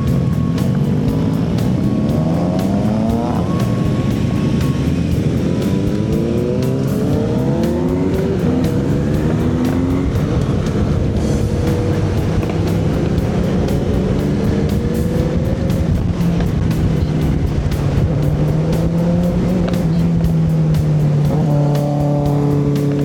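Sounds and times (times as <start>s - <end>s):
motorcycle engine accelerating: 0.0s - 23.0s
wind rushing: 0.0s - 23.0s.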